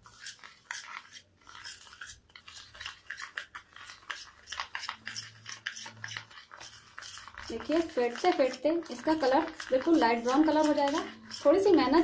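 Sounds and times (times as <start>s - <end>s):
spoon scraping metal tumbler: 0.0s - 12.0s.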